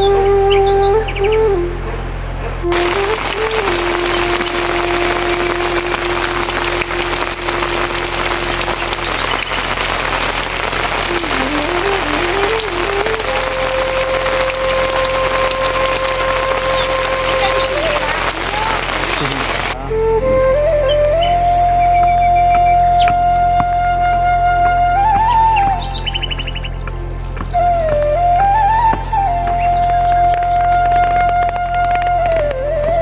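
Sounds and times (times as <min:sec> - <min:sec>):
slow flute melody: 0:00.0 - 0:33.0
heavy rain hiss: 0:02.0 - 0:26.8, 0:27.4 - 0:32.9.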